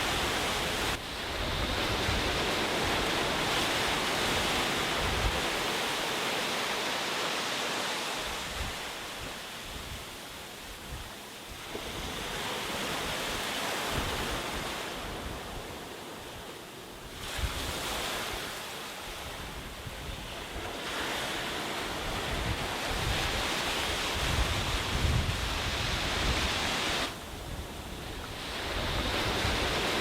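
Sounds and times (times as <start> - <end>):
wind buffeting the microphone: 0.0 - 5.8, 8.2 - 15.8, 17.1 - 18.5, 19.1 - 30.0
sea waves breaking on a beach: 0.0 - 30.0.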